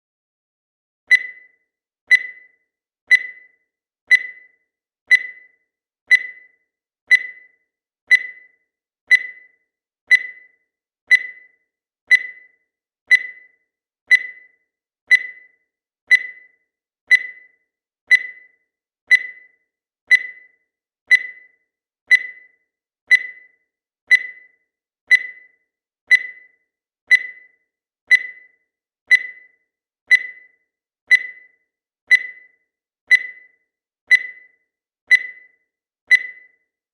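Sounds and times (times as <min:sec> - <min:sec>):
countdown timer beeping: 0:01.1 - 0:36.8.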